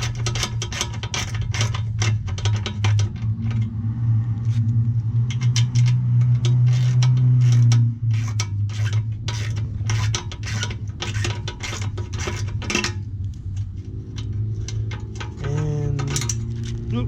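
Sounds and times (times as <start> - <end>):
hand tools clicking and scraping: 0.0 - 3.8, 4.4 - 17.0
steady low hum: 0.0 - 17.0.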